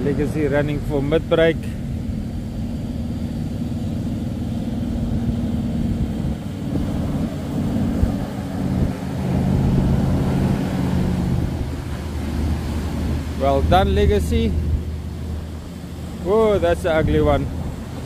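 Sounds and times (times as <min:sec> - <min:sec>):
boat engine rumbling: 0:00.0 - 0:18.0.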